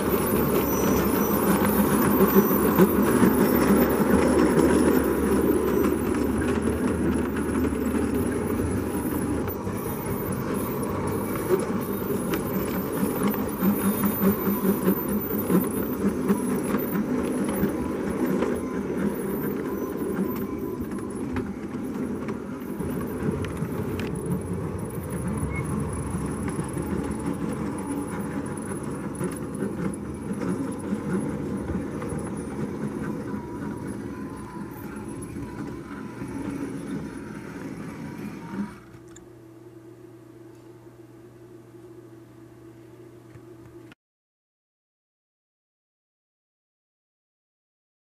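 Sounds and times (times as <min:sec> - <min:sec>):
model train wheels rolling: 0:00.0 - 0:39.2.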